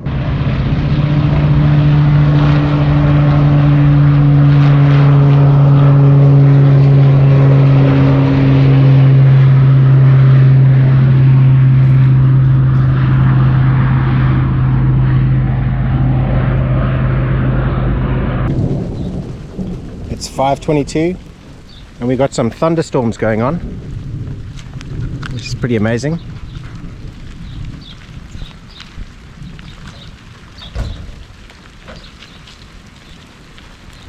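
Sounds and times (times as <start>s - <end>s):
propeller plane flying low: 0.0s - 34.0s.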